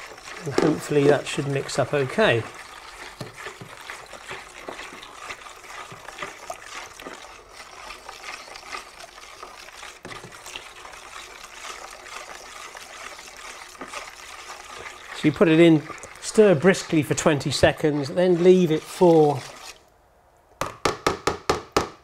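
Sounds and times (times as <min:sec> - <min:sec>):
paste stirred in water sloshing: 0:00.0 - 0:19.9.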